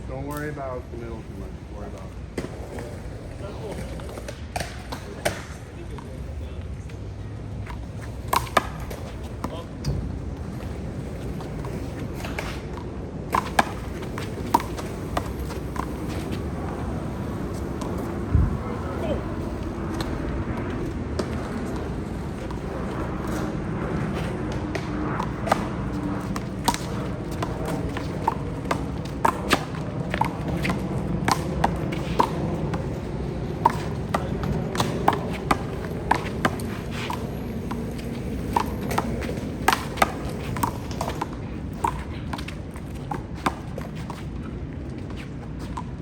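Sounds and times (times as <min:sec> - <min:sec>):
city background hum: 0:00.0 - 0:46.0.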